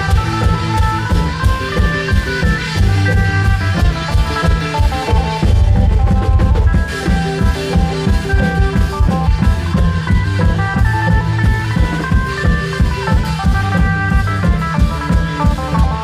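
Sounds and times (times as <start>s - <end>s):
drum band playing dance music: 0.0s - 16.0s.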